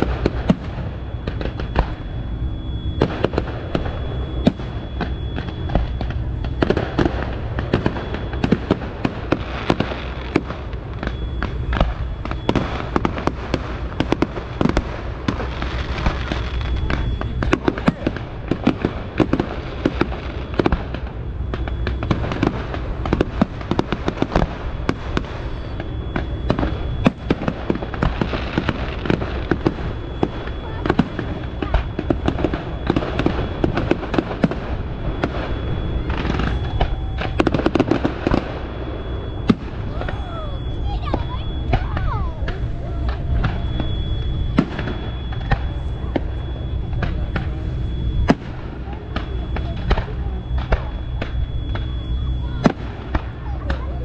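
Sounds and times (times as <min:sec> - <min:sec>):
fireworks bangs and crackles: 0:00.0 - 0:54.0
low rumble: 0:00.0 - 0:54.0.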